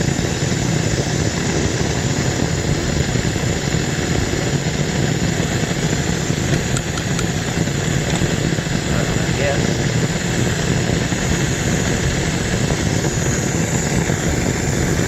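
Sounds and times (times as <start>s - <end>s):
gas torch flame burning: 0.0s - 15.0s.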